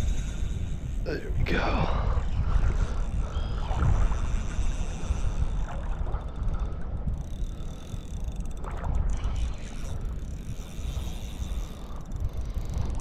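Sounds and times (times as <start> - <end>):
shallow water lapping: 0.0 - 13.0
wind buffeting the microphone: 0.0 - 13.0.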